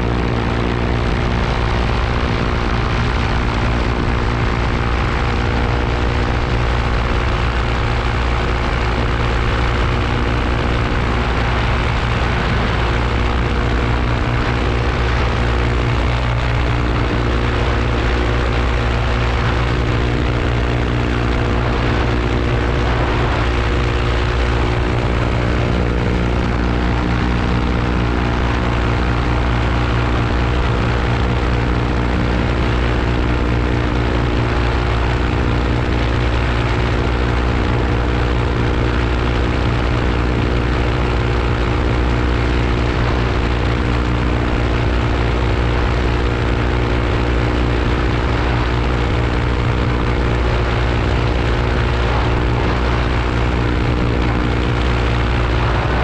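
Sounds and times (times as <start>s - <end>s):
paramotor engine drone: 0.0s - 56.0s.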